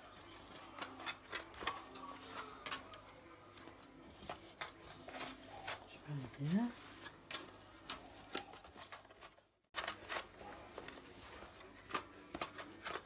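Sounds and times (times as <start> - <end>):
pastry sheets rustling: 0.0 - 13.0.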